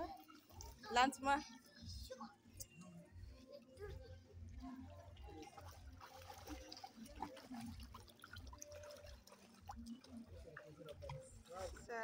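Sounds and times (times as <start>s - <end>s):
water splashing and lapping: 0.0s - 2.0s, 3.5s - 12.0s.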